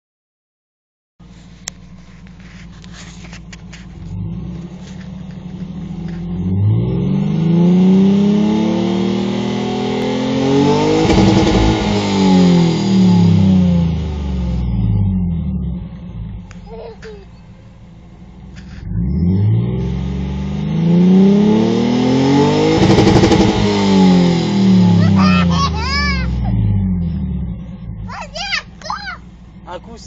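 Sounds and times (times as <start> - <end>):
car engine idling and revving: 1.2 - 30.0.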